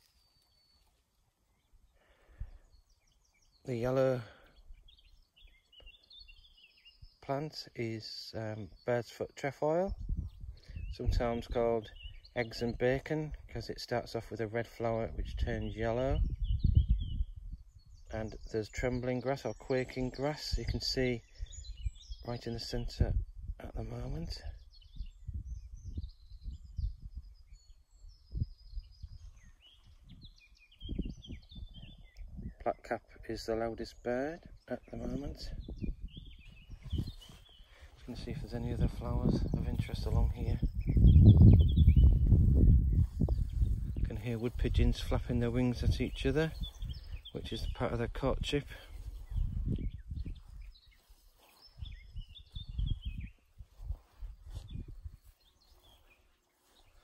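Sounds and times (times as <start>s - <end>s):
faint songbirds: 0.0s - 57.0s
blackcap warbling song: 2.7s - 7.6s, 10.0s - 12.8s, 15.5s - 57.0s
wind rumble on microphone: 9.8s - 57.0s.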